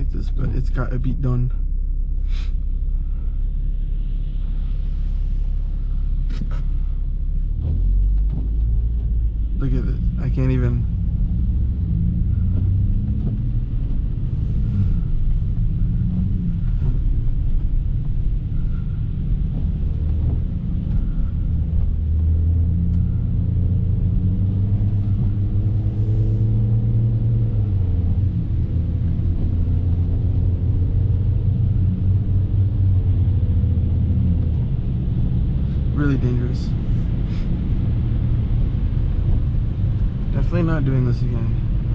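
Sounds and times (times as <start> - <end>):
car engine running: 0.0 - 41.9
tyres rumbling on snowy road: 0.0 - 41.9.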